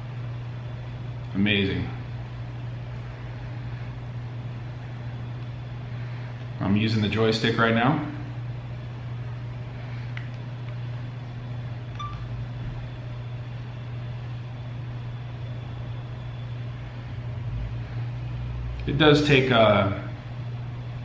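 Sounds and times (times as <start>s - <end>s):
room hum: 0.0s - 21.0s.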